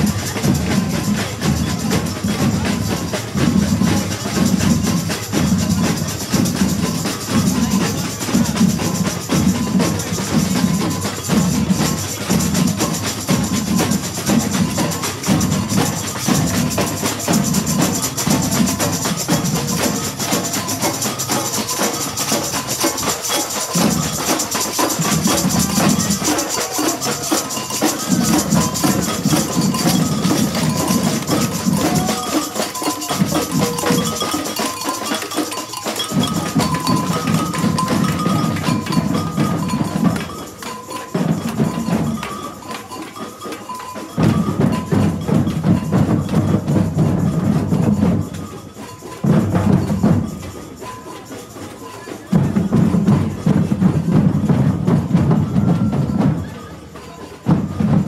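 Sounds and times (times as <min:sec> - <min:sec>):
bass drums beaten with mallets: 0:00.0 - 0:51.3, 0:52.2 - 0:58.0
snare drums: 0:00.0 - 0:58.0.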